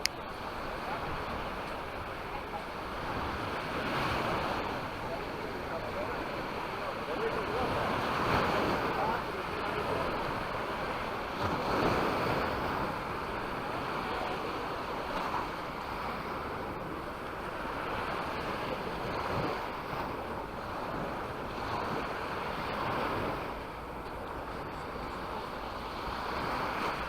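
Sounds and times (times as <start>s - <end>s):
sea waves breaking: 0.0s - 27.0s
wind rumbling on microphone: 0.0s - 27.0s.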